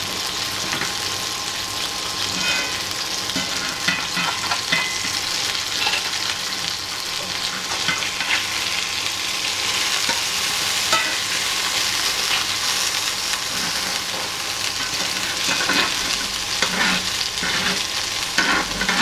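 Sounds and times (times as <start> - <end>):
chicken sizzling in a pan: 0.0 - 19.0
utensil scraping in a pan: 0.3 - 1.3, 1.9 - 19.0.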